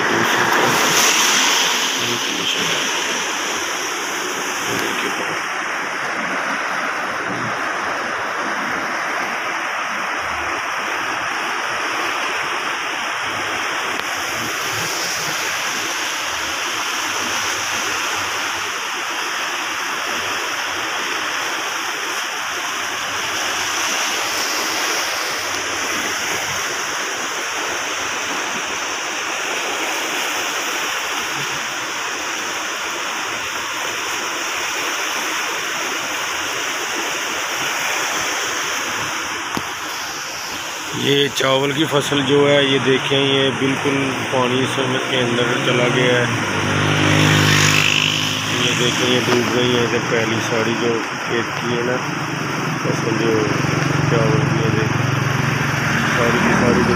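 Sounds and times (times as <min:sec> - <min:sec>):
floodwater rushing: 0:00.0 - 0:56.9.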